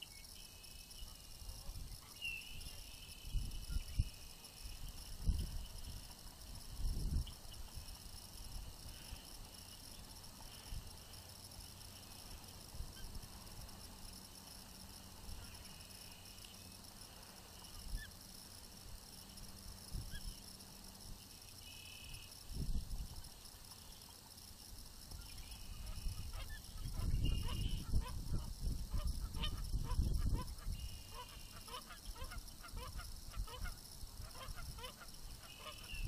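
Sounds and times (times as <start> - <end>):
steady high hiss: 0.0 - 36.0.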